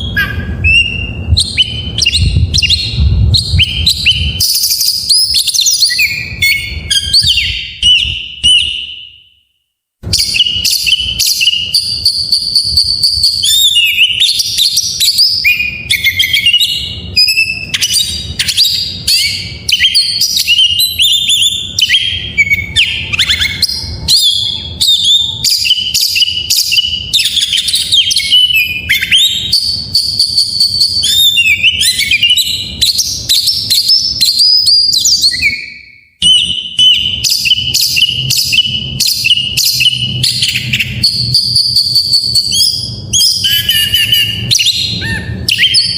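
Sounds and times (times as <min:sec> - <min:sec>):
bird singing varied whistles: 0:00.0 - 0:45.9.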